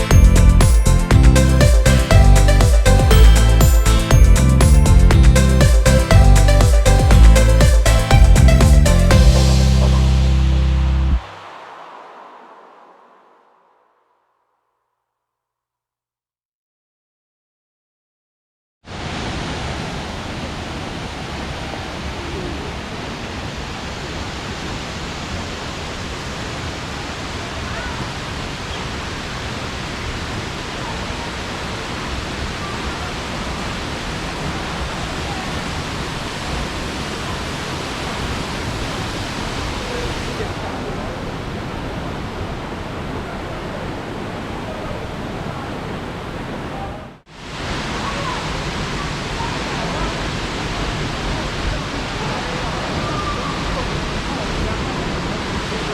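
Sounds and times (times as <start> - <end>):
waterfall roaring: 0.0 - 13.8, 18.9 - 55.9.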